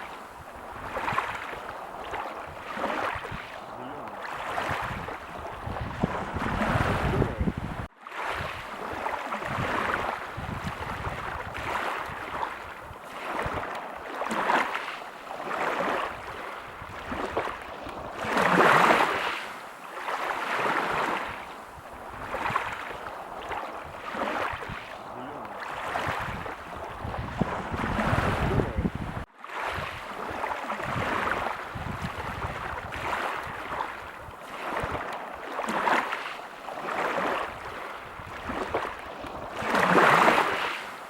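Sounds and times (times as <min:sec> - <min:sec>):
ocean waves breaking: 0:00.0 - 0:41.0.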